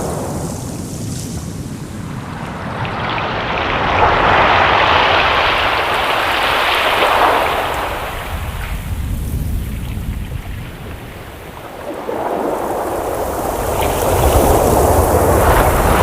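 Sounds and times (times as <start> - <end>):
low rumble of surf: 0.0 - 16.0
ocean wave washing in: 0.0 - 16.0.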